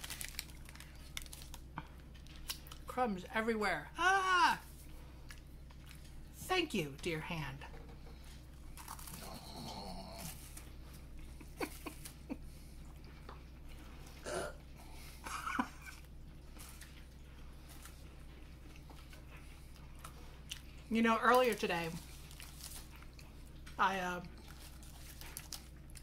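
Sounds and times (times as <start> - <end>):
crunching and chewing cookie: 0.0 - 3.0, 4.7 - 7.1, 7.8 - 26.0.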